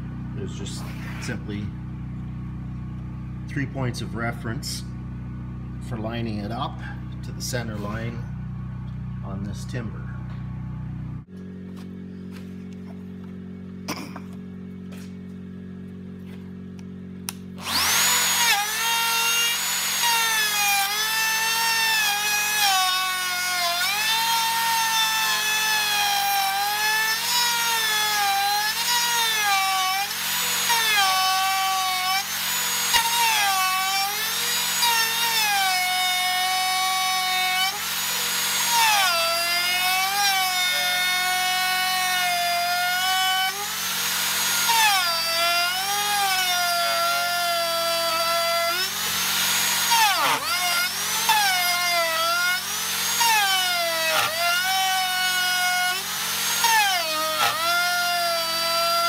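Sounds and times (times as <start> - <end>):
router motor whine: 0.0 - 59.0.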